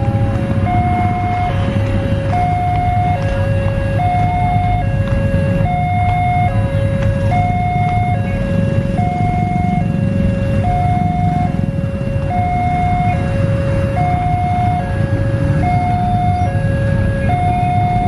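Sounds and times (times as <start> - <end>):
idling motorcycles and traffic: 0.0 - 18.0
two-tone level crossing alarm: 0.0 - 18.0.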